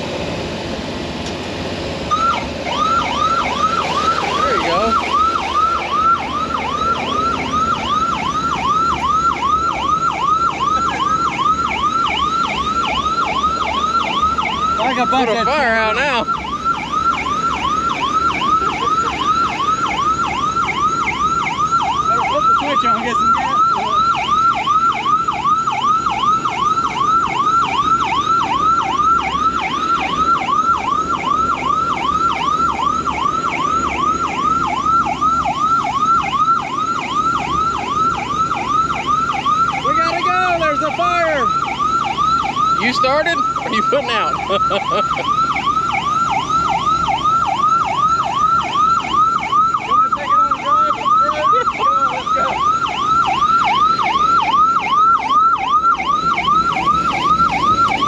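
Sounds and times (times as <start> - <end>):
siren fast yelp: 2.1 - 58.0.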